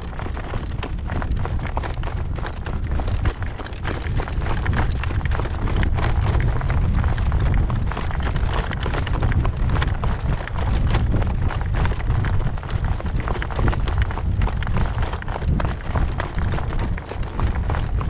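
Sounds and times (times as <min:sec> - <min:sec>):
horse hoofbeats on road: 0:00.0 - 0:18.0
wind buffeting microphone: 0:00.0 - 0:18.0.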